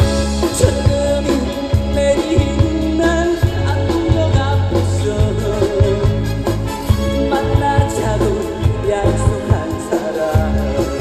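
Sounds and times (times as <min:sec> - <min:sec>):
live band playing: 0:00.0 - 0:11.0
man singing: 0:00.0 - 0:11.0.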